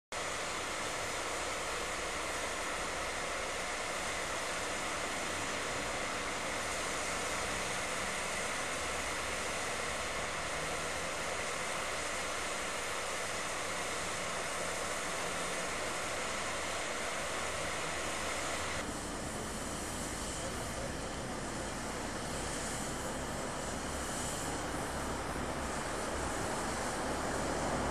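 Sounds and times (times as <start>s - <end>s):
steam hissing from locomotive: 0.2s - 27.9s.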